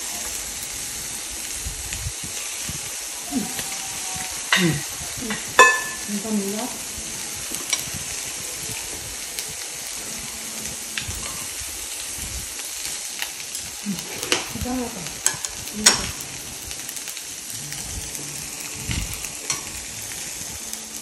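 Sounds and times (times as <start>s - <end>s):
food sizzling in a frying pan: 0.0s - 21.0s
metal tongs clicking on pan: 0.1s - 1.1s, 3.6s - 6.8s, 7.4s - 21.0s.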